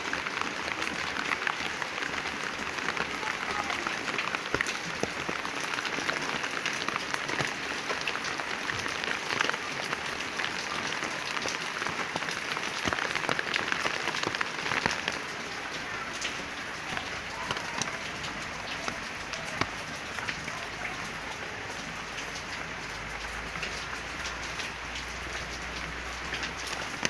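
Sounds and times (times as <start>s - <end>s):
rain on plants and leaves: 0.0s - 27.0s.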